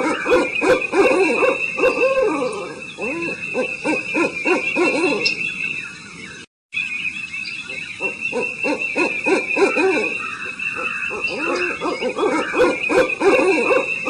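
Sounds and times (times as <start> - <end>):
birds hooting: 0.0 - 14.0.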